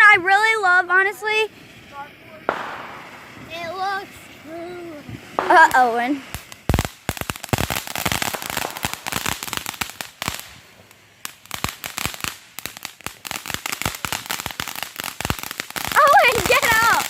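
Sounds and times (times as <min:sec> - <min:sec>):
firework pops and crackles: 0:00.8 - 0:17.0.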